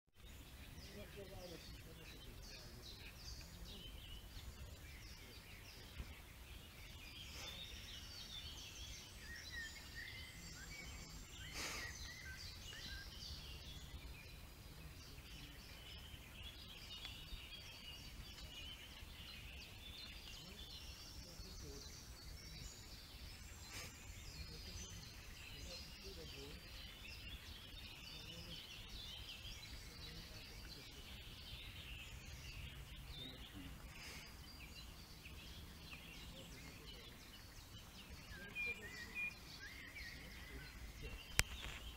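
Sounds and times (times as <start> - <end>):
birds chirping: 0.1 - 41.9.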